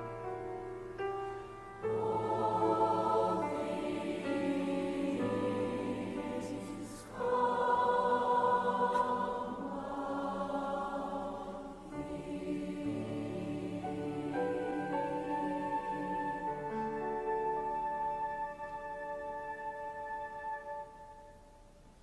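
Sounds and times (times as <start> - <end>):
slow choral music: 0.0 - 22.0.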